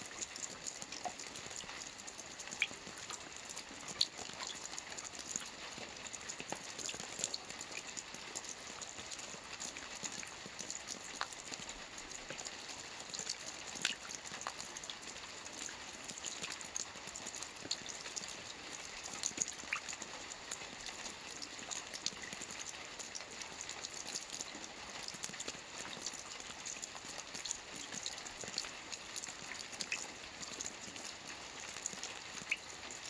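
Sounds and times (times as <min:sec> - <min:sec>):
soft rain on a roof: 0:00.0 - 0:33.0.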